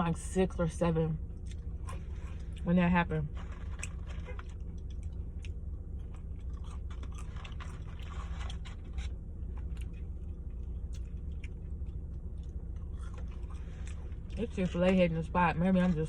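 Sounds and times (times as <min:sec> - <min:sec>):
steady low hum: 0:00.0 - 0:16.0
chewing crunchy food: 0:01.3 - 0:15.1.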